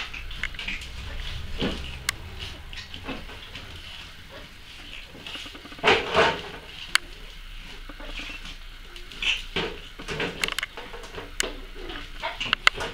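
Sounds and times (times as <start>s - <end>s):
puppies scuffling: 0.0s - 12.9s.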